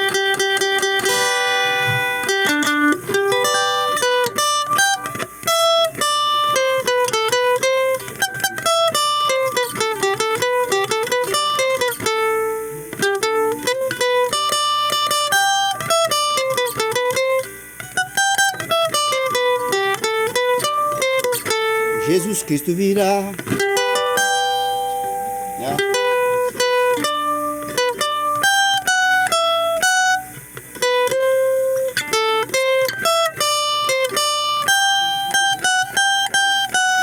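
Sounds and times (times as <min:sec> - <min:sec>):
electric guitar melody: 0:00.0 - 0:37.0.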